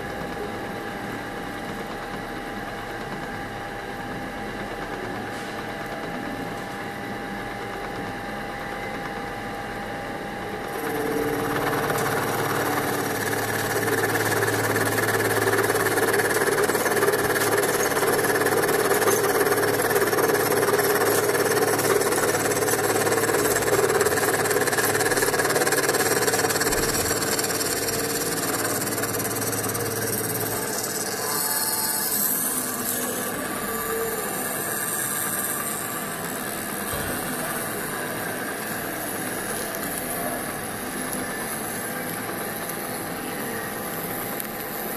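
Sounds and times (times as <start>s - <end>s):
milling machine whirring: 0.0s - 44.9s.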